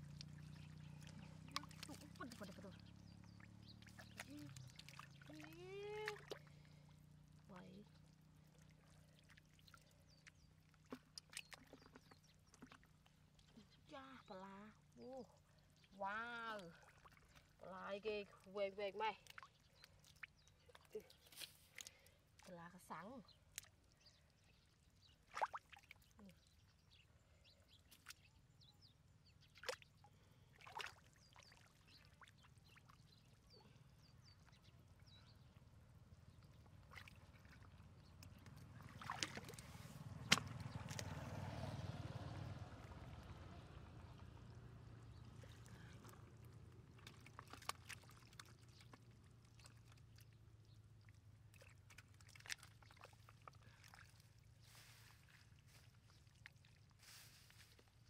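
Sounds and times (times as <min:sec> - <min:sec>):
muddy water sloshing: 0:00.0 - 0:58.0.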